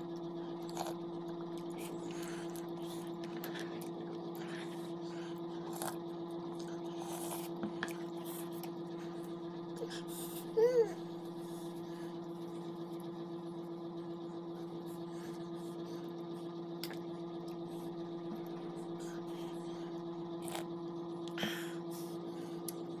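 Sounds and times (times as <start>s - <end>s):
electric desk fan humming: 0.0s - 23.0s.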